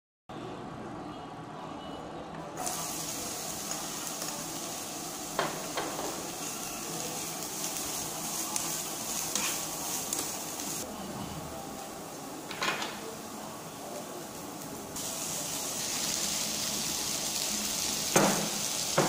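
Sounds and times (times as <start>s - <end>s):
onion sizzling in frying pan: 2.6s - 10.9s, 11.6s - 19.0s.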